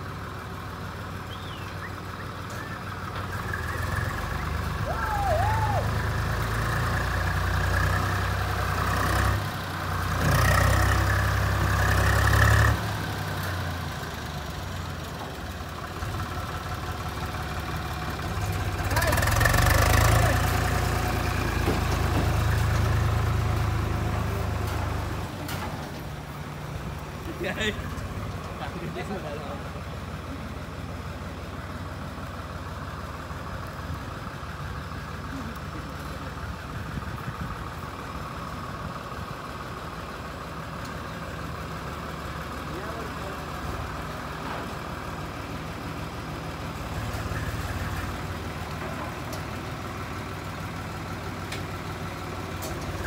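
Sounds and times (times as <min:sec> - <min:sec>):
tractor diesel engine: 0:00.0 - 0:53.0.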